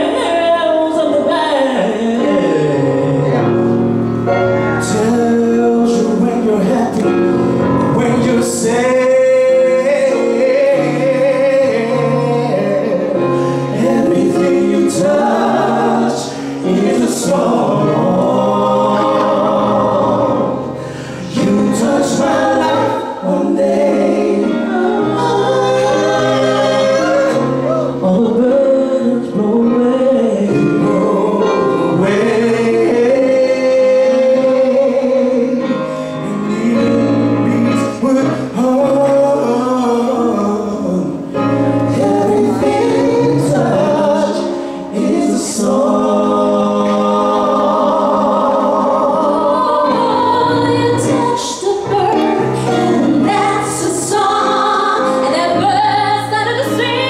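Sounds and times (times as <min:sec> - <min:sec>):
gospel group singing in harmony: 0:00.0 - 0:57.0.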